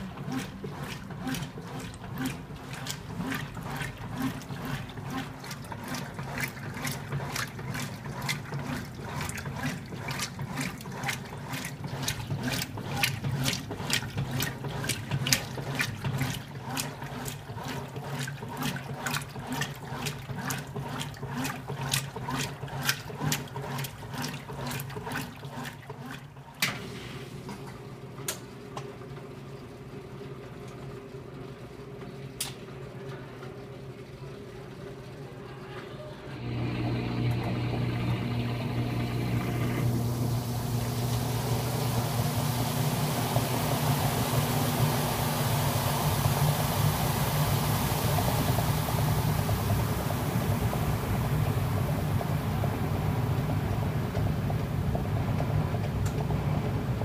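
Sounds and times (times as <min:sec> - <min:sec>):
washer sloshing water and clothes: 0:00.0 - 0:35.7, 0:36.4 - 0:57.0
washer motor hum: 0:00.0 - 0:57.0.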